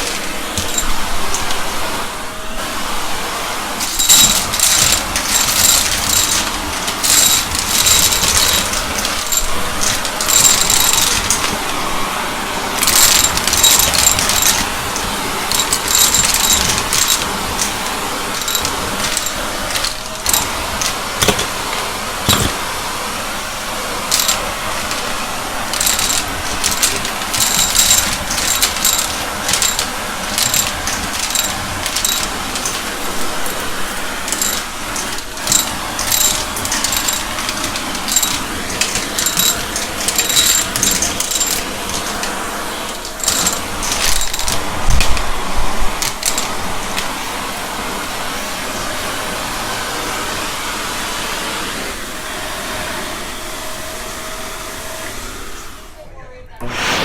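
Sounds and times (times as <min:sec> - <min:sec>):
debris rattling in vacuum: 0:00.0 - 0:49.7
vacuum cleaner running: 0:00.0 - 0:57.0.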